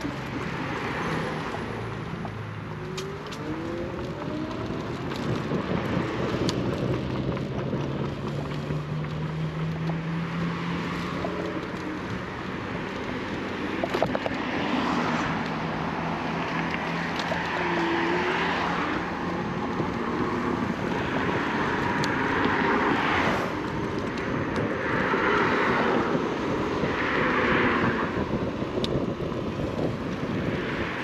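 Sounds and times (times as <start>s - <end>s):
electric scooter low hum: 0.0s - 31.0s
road and traffic rush: 0.0s - 31.0s.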